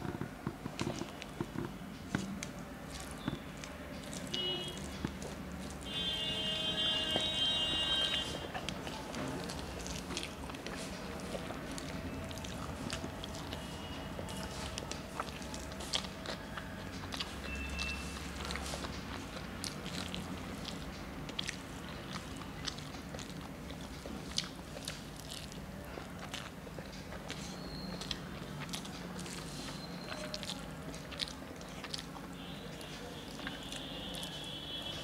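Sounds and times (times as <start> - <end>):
person chewing: 0.0 - 35.0.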